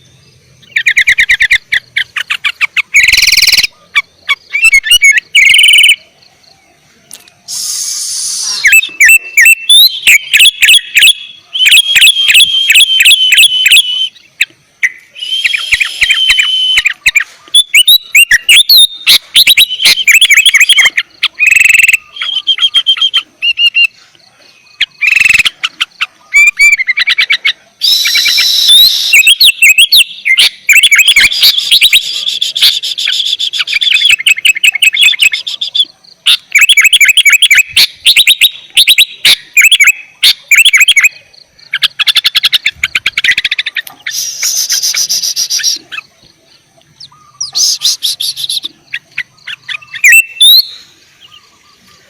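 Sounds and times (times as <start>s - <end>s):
bulbul singing: 0.0s - 52.0s.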